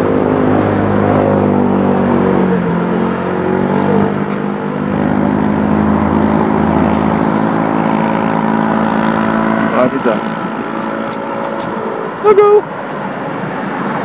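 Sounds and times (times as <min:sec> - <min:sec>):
road traffic noise: 0:00.0 - 0:14.0
vehicle engine humming: 0:00.0 - 0:14.0.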